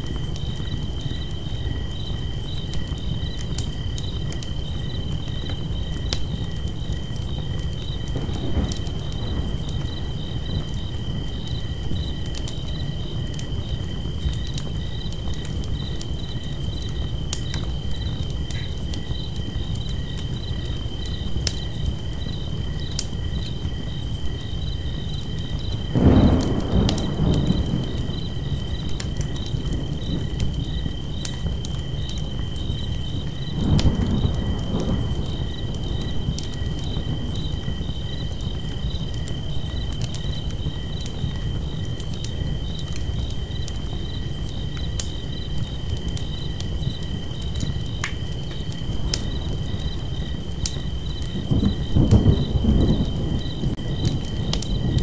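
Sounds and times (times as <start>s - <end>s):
campfire crackling and popping: 0.0s - 55.0s
crickets trilling: 0.0s - 55.0s.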